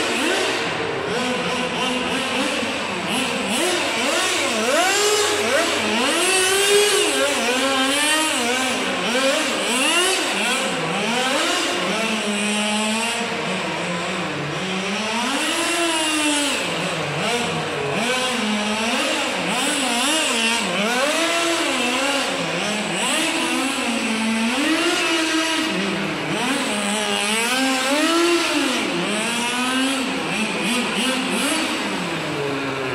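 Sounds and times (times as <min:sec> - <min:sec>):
model car engine revving: 0:00.0 - 0:32.9.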